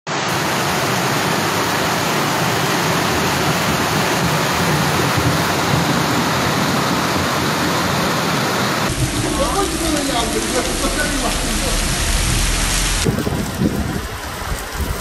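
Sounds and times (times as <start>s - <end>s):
floodwater rushing down street: 0.1s - 15.0s.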